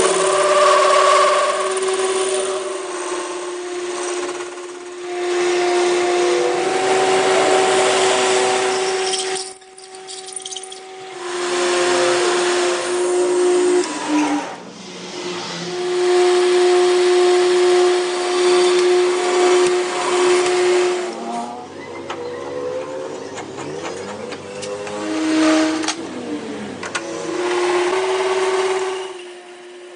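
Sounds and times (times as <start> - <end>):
power tool whining on metal: 0.0 - 29.9.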